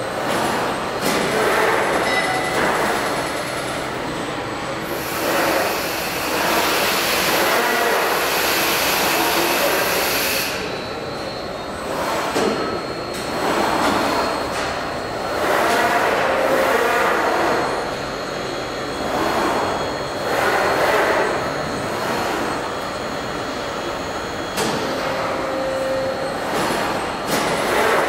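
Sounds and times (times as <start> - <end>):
machine mechanical noise: 0.0 - 28.0.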